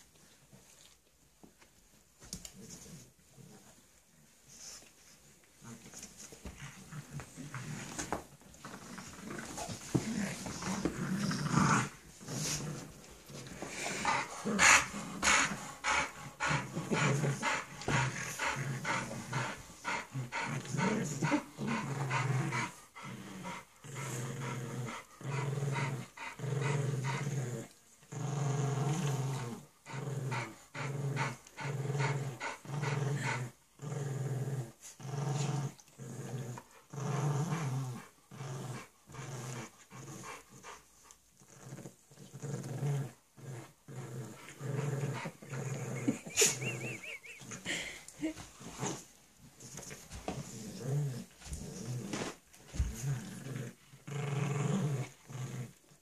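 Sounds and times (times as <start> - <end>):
dogs growling in play: 2.4 - 56.0.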